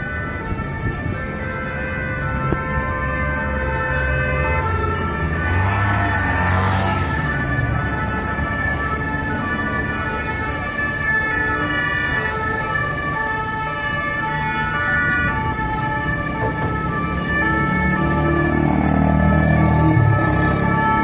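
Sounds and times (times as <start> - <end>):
emergency vehicle sirens: 0.0 - 21.0
low rumble of street noise: 0.0 - 21.0.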